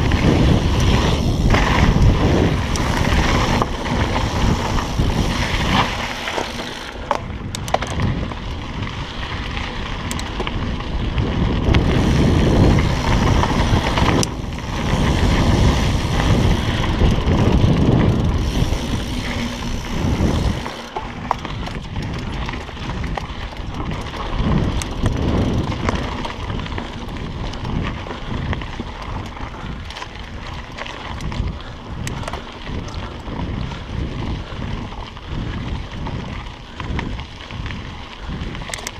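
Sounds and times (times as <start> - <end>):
tyres crunching on dirt: 0.0 - 31.3
bike clicks and rattles: 0.0 - 38.9
wind rushing on microphone: 0.0 - 38.9.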